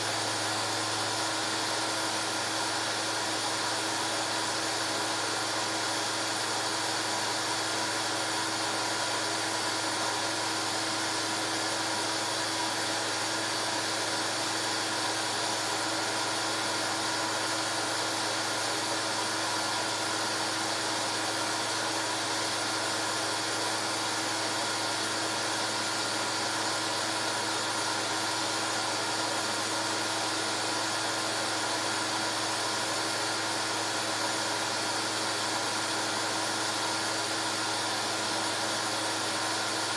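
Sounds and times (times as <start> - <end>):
projector motor and fan whir: 0.0 - 39.9.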